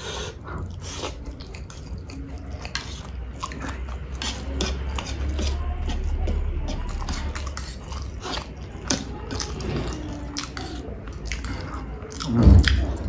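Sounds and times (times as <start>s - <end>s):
person chewing food: 0.0s - 13.0s
steady low hum: 0.0s - 13.0s.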